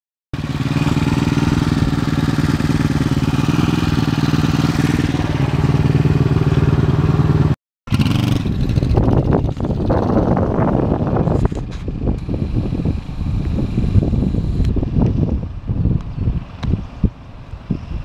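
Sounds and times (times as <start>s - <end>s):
motorcycle engine running: 0.4s - 15.9s.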